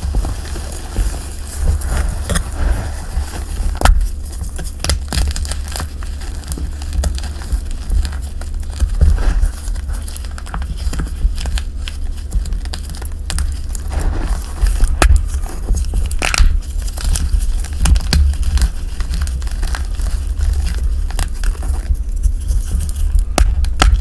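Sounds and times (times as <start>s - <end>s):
chalk crackling and crunching: 0.0s - 24.0s
low handling rumble: 0.0s - 24.0s.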